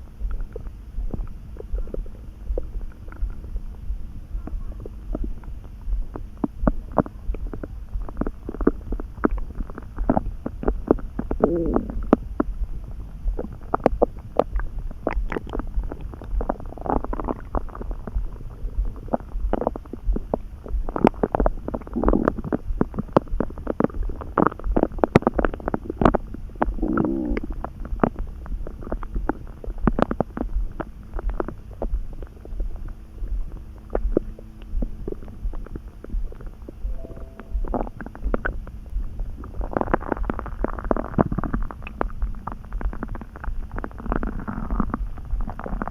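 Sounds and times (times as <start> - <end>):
pitched stomach growl: 0.0 - 45.9
stomach gurgling and rumbling: 0.0 - 45.9.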